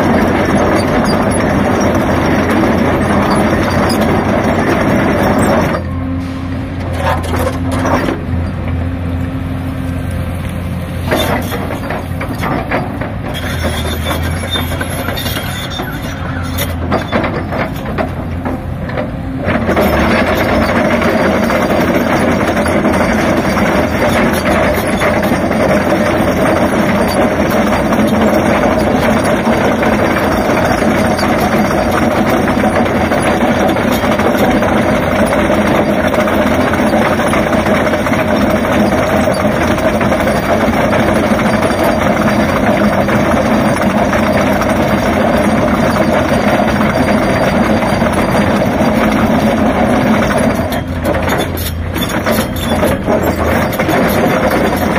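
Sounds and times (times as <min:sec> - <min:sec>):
excavator engine running: 0:00.0 - 0:54.9.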